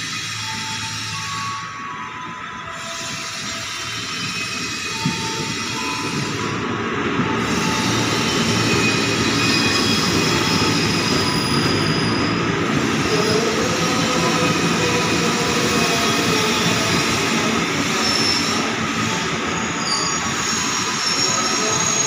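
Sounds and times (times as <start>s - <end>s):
train wheel and motor rumble: 0.0s - 22.0s.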